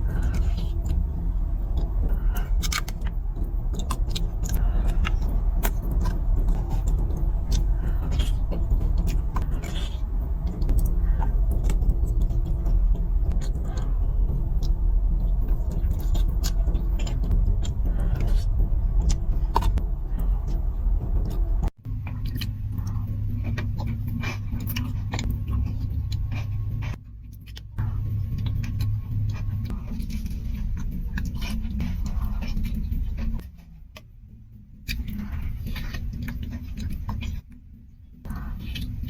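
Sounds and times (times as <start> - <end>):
chewing and crunching food: 0.0 - 39.0
steady low hum: 0.0 - 39.0.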